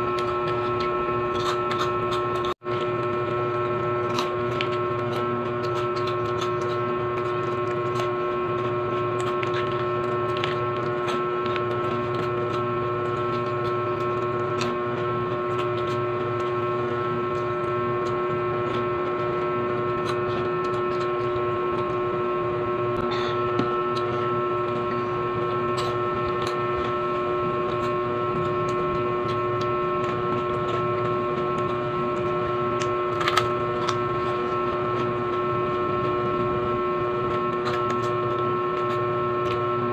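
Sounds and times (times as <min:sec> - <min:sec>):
steady multi-tone hum: 0:00.0 - 0:39.9.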